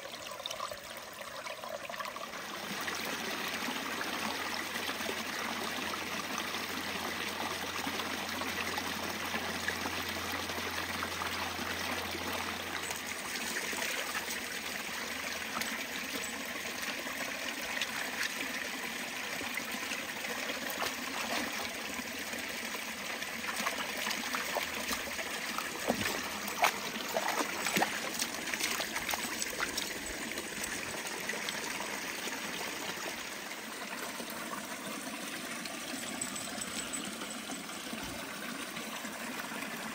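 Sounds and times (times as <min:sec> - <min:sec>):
creek water splashing over rocks: 0:00.0 - 0:37.4.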